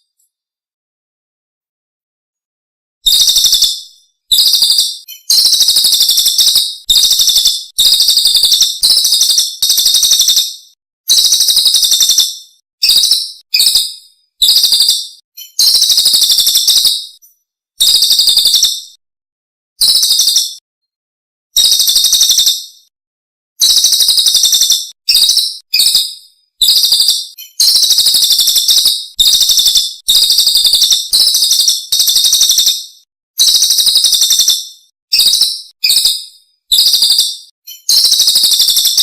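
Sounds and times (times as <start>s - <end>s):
recorded songbird trills: 3.0s - 19.0s, 19.8s - 20.6s, 21.6s - 22.9s, 23.6s - 39.0s.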